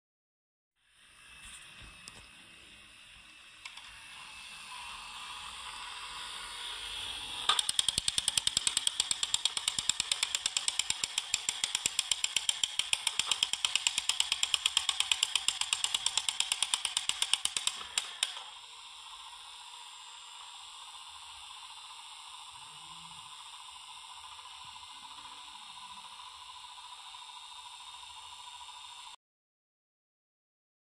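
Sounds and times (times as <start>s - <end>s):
toy train motor hiss: 0.8s - 29.2s
fast clicking of toy train wheels: 3.4s - 29.2s.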